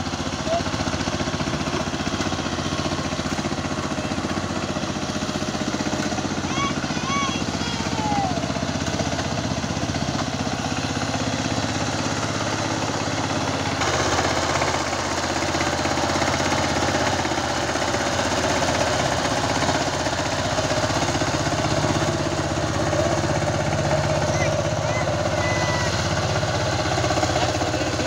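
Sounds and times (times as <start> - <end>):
diesel tiller engine chugging: 0.0 - 28.0.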